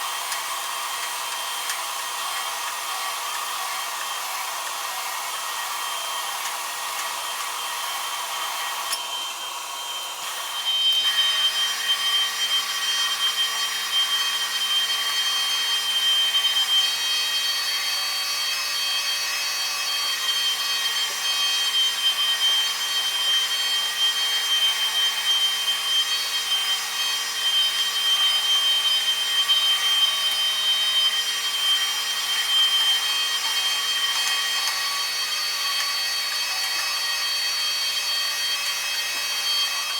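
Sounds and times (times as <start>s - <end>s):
motorized carpet brush machine: 0.0s - 39.9s.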